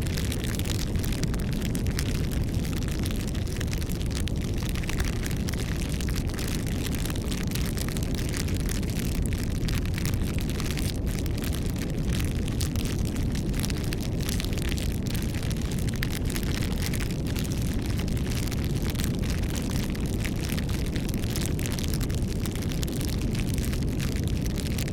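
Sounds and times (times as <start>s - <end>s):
burning wood crackling: 0.0s - 24.9s
campfire flames rumbling: 0.0s - 24.9s.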